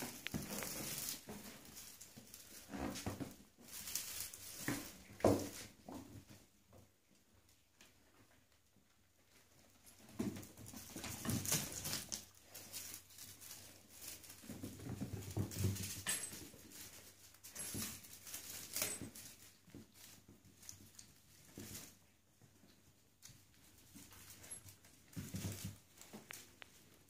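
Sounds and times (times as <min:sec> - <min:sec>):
kittens scuffling on wooden floor: 0:00.0 - 0:27.0.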